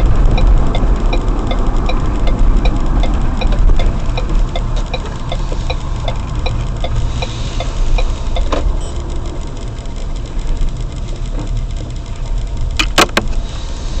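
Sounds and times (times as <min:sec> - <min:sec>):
turn signal clicking: 0:00.0 - 0:13.4
car engine running: 0:00.0 - 0:14.0
road rumble: 0:00.0 - 0:14.0.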